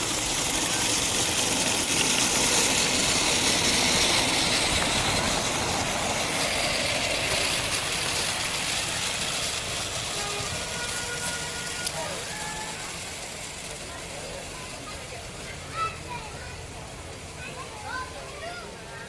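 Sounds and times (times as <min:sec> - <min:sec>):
miniature train clattering by: 0:00.0 - 0:19.0.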